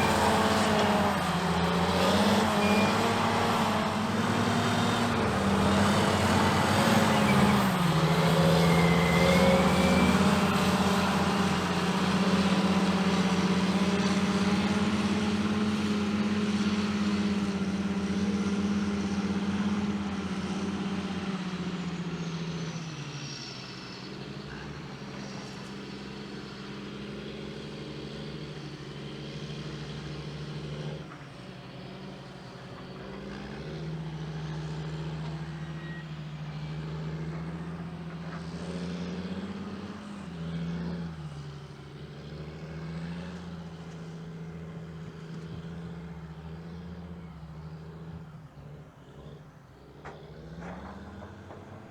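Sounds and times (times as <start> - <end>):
diesel engines running hard: 0.0 - 51.9.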